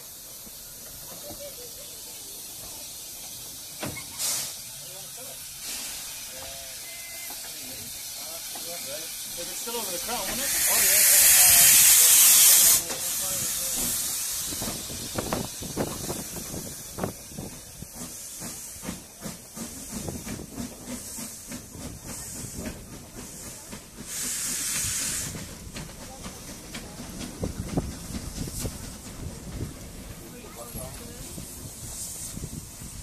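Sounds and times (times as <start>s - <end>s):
steam locomotive hissing steam: 0.0s - 33.0s.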